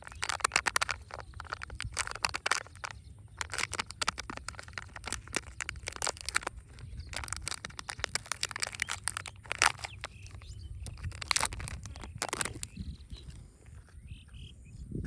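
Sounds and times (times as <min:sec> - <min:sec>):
packaging crinkling: 0:00.0 - 0:13.4.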